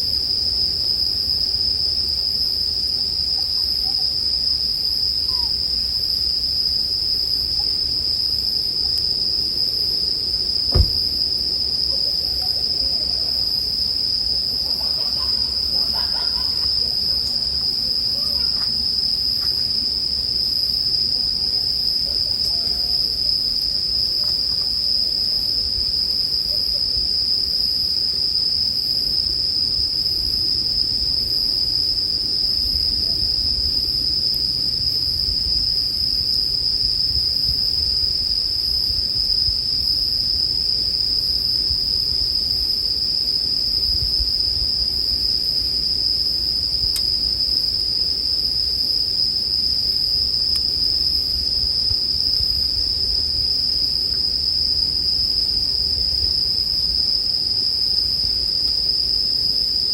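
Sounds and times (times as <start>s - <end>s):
crickets ringing: 0.0s - 59.9s.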